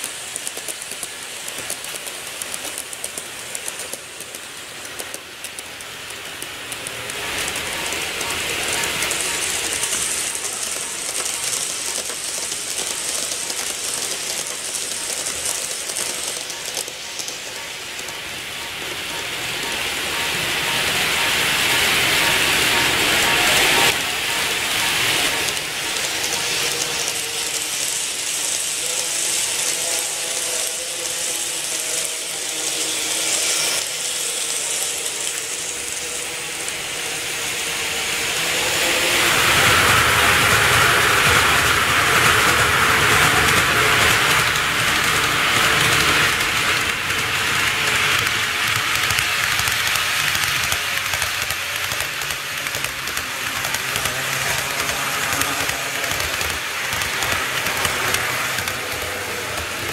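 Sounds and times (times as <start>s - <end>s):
model train motor whirring: 0.0s - 59.9s
wheels clattering on rails: 0.0s - 59.9s.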